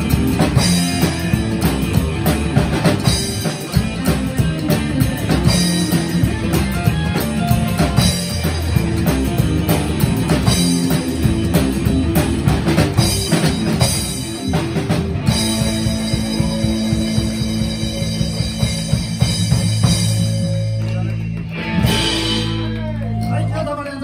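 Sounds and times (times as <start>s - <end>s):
rockabilly band playing: 0.0s - 24.0s.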